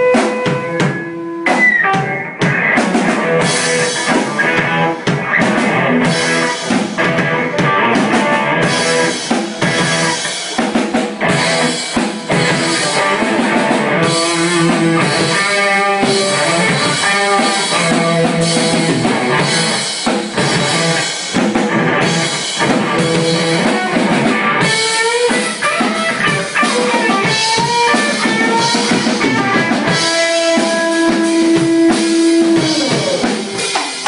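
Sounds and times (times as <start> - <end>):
drum kit beat: 0.0 - 34.0
electric guitar rock solo: 0.0 - 34.0.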